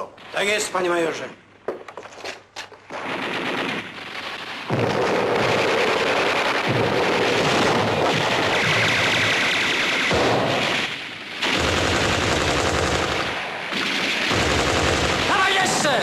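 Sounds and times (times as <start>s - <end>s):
machine-gun fire in rapid bursts: 2.8s - 16.0s.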